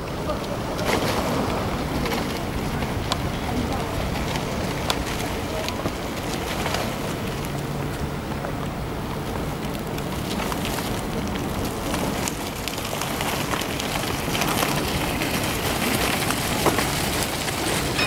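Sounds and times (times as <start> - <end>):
tram rolling on rails: 0.0 - 18.0.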